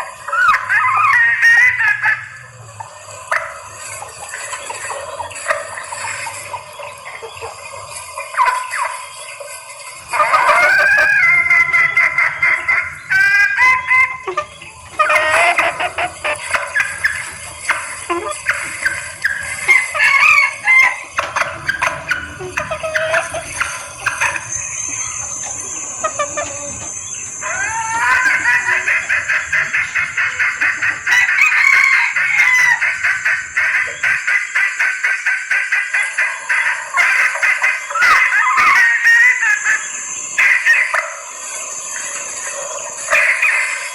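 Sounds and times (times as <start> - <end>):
hen clucking calls: 0.0 - 43.9.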